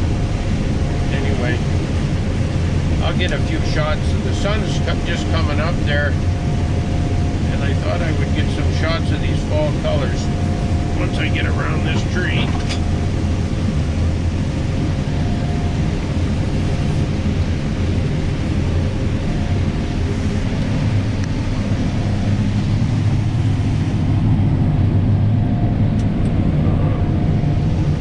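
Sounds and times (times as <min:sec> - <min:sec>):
combine harvester running: 0:00.0 - 0:28.0.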